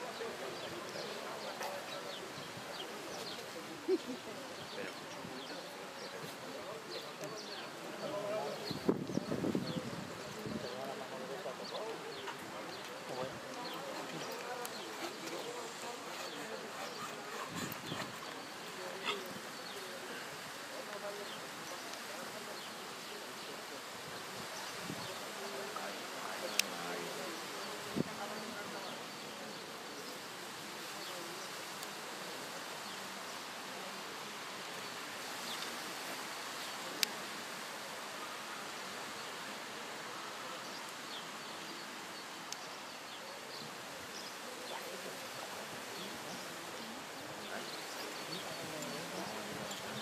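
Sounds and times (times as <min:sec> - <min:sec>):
outdoor background hiss: 0:00.0 - 0:50.0.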